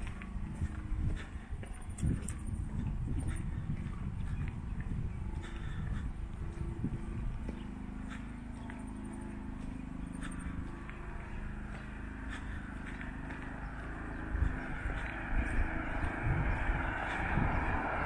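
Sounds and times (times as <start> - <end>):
faint footsteps: 0.0 - 18.0
vehicle approaching on road: 0.0 - 18.0.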